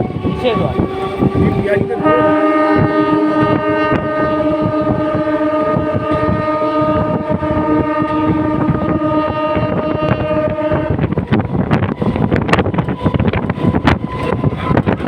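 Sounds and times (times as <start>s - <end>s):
train horn blast: 0.0s - 15.0s
train wheels clattering on track: 2.7s - 15.0s.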